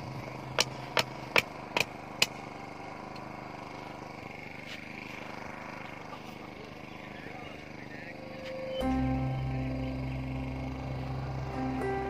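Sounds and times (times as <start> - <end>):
faint engine-like hum: 0.0 - 12.0.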